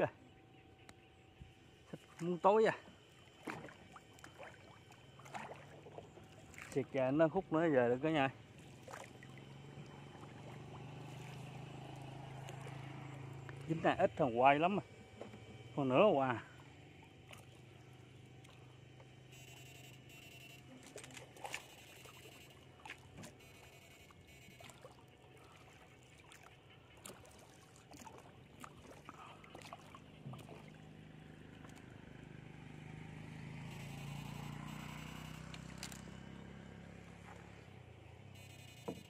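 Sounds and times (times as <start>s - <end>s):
low engine hum: 0.0s - 39.0s.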